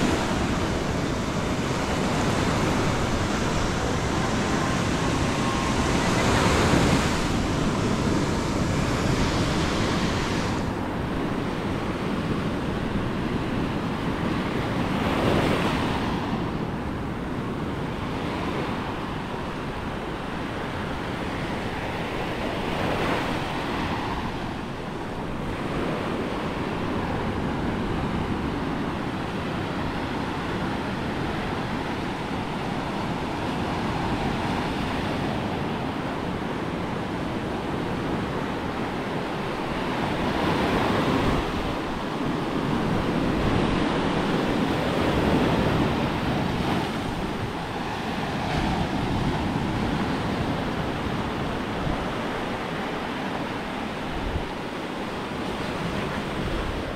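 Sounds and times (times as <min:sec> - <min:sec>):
sea waves breaking on shore: 0:00.0 - 0:56.9.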